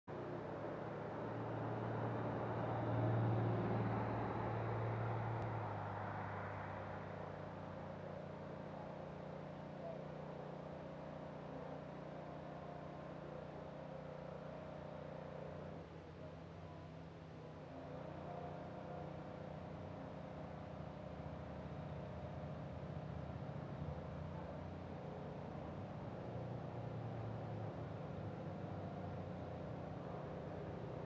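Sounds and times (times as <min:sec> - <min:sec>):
vehicle engine humming: 0:00.1 - 0:31.0.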